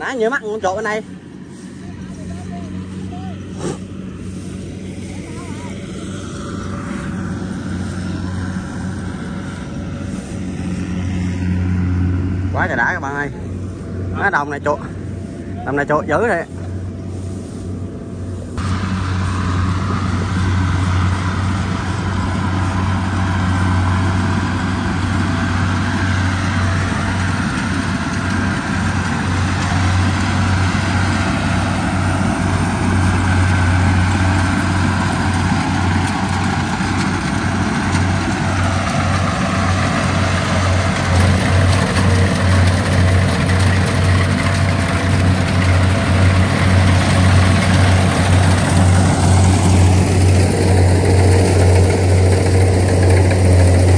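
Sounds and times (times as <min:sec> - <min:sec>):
harvester engine humming: 0:00.0 - 0:53.9.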